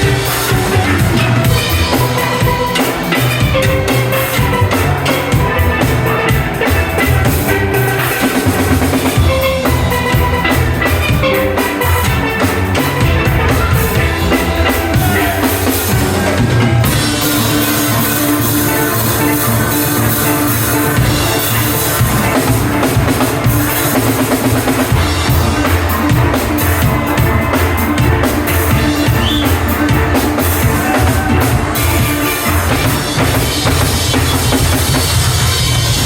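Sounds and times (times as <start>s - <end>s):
drum kit steady beat: 0.0s - 36.0s
steel pans playing quick notes: 0.0s - 36.0s.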